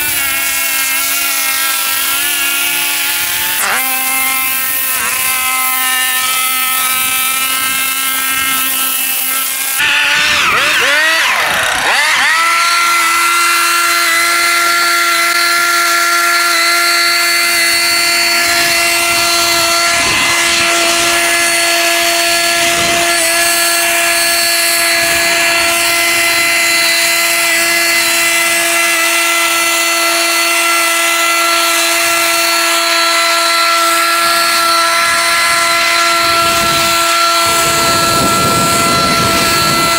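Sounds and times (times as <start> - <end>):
small petrol engine whining: 0.0 - 39.9.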